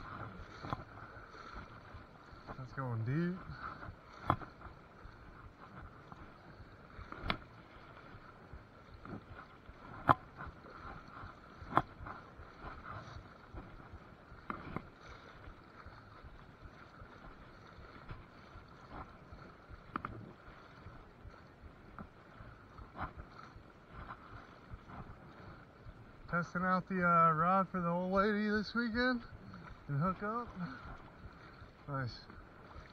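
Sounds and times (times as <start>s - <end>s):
river water swishing around legs: 0.0s - 32.9s.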